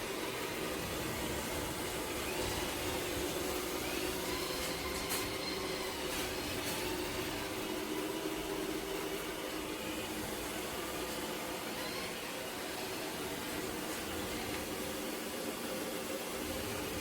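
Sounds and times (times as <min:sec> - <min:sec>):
robot vacuum motor whine: 0:00.0 - 0:17.0.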